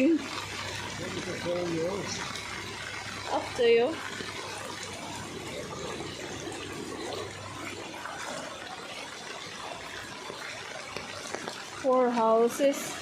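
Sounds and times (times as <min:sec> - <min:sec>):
floodwater rushing and splashing: 0:00.0 - 0:13.0.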